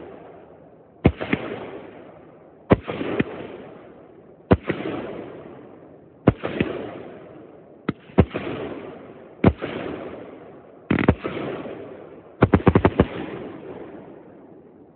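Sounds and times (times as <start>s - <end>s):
fireworks bursting with echoing bangs: 0.0s - 14.8s.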